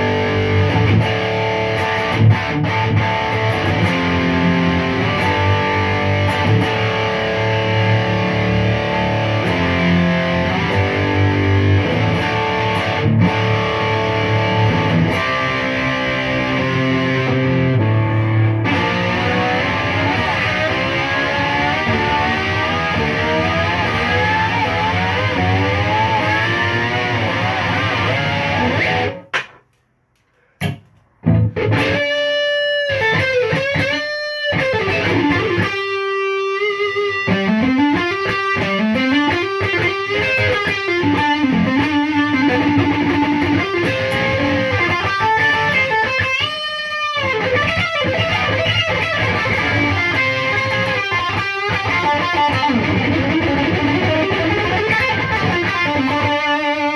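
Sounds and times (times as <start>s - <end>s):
distorted electric guitar: 0.0s - 29.6s, 30.6s - 56.9s.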